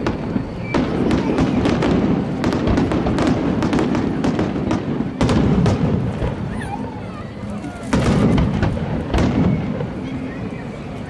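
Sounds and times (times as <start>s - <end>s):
loud firework burst: 0.0s - 6.9s, 7.8s - 10.8s
fireworks bangs and crackling: 0.0s - 11.0s.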